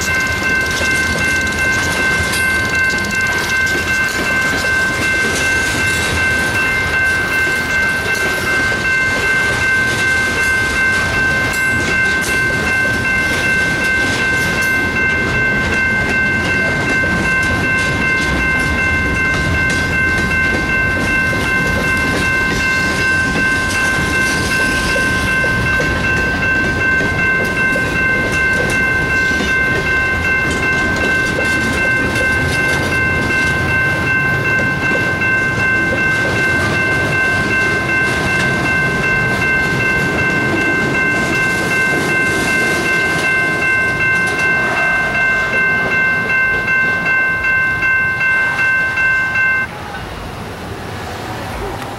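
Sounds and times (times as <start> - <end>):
electronic crossing bell ringing: 0.0 - 49.7.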